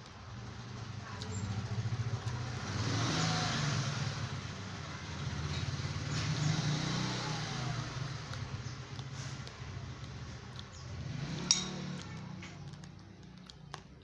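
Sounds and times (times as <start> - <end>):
vehicle engine passing by: 0.2 - 13.8.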